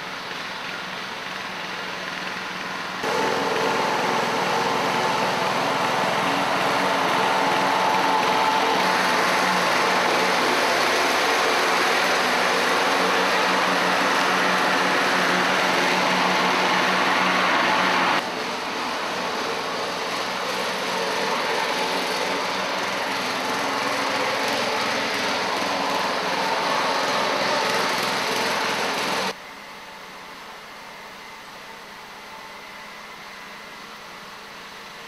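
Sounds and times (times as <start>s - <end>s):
small engine running: 0.0s - 29.4s.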